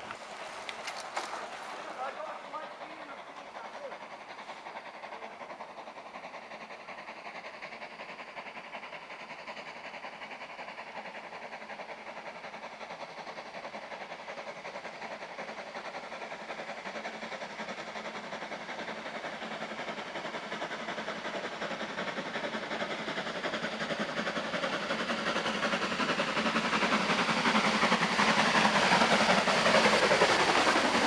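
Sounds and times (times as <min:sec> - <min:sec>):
train rattling rumble: 0:00.0 - 0:31.0.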